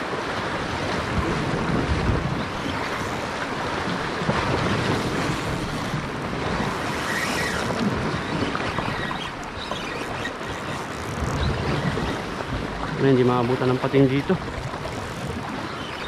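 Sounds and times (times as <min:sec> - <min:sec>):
sea waves washing against rocks: 0:00.0 - 0:16.0
wind buffeting the microphone: 0:00.0 - 0:16.0.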